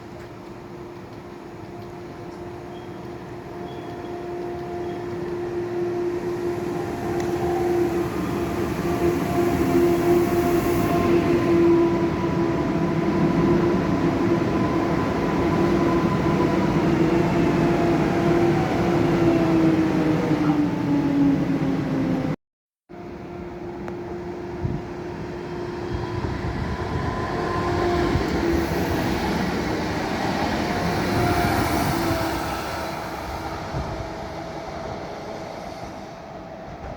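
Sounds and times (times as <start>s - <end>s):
passenger train rumbling and whining: 0.0s - 36.9s.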